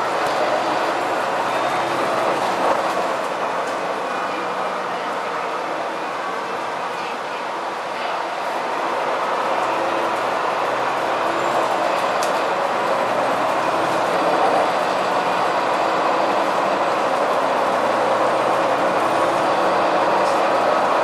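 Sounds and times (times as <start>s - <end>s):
bus engine running: 0.0s - 21.0s.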